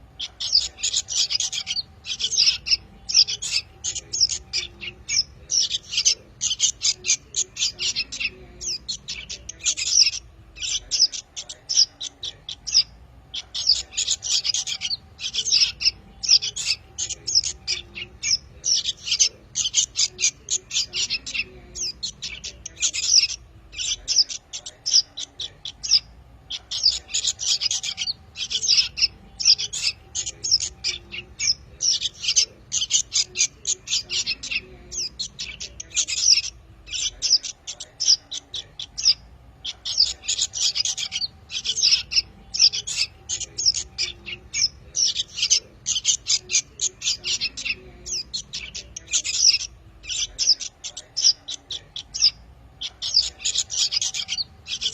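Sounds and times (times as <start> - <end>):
young songbirds chirping: 0.0 - 54.9.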